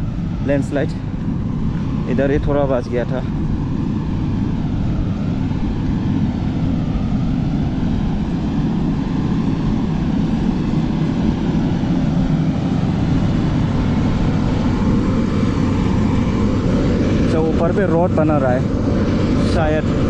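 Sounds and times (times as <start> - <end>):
diesel machinery rumbling: 0.0 - 20.0.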